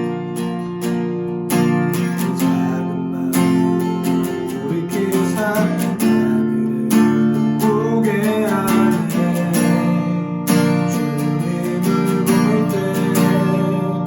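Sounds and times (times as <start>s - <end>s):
acoustic guitar strumming chords: 0.0s - 14.0s
person singing worship song: 1.9s - 14.0s.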